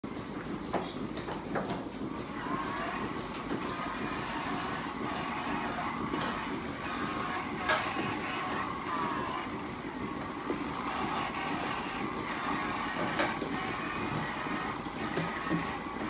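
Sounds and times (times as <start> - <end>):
milking machinery humming: 0.0 - 16.0.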